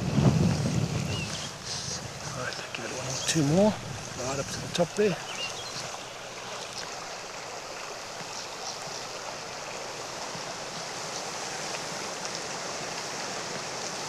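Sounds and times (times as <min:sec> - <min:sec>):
stream running over stones: 0:00.0 - 0:14.0.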